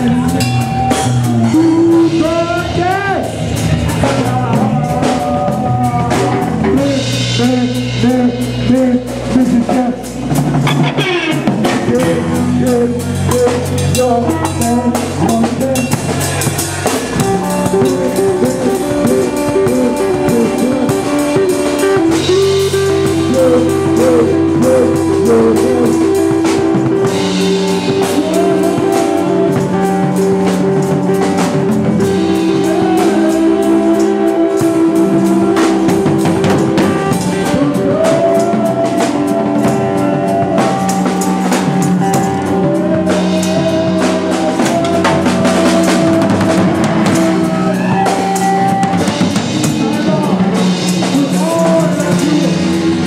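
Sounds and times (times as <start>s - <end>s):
drum and cymbal hits: 0.0s - 53.0s
rock band jamming: 0.0s - 53.0s.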